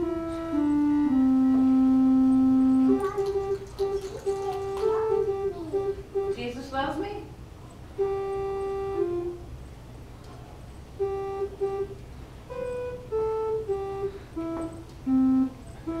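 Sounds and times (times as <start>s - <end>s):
electronic organ melody: 0.0s - 7.1s, 7.9s - 9.7s, 10.8s - 16.0s.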